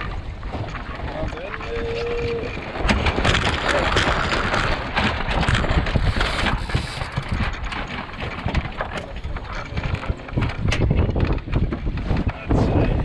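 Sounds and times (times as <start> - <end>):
water splashing against hull: 0.0 - 13.0
wind buffeting microphone: 0.0 - 13.0.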